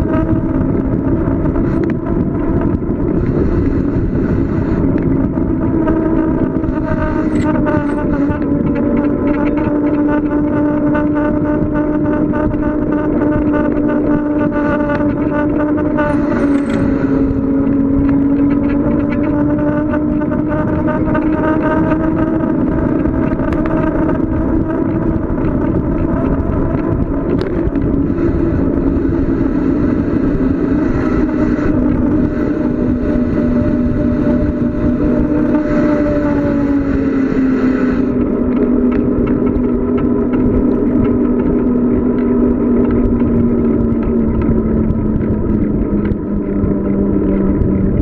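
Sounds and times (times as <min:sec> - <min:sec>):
droning tone: 0:00.0 - 0:48.0
wind noise on microphone: 0:00.0 - 0:48.0.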